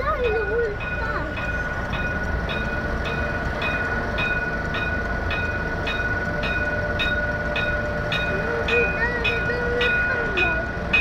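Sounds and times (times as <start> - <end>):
road traffic rumble: 0.0 - 11.0
slow-moving tram: 0.0 - 11.0
steady high tone: 0.0 - 11.0.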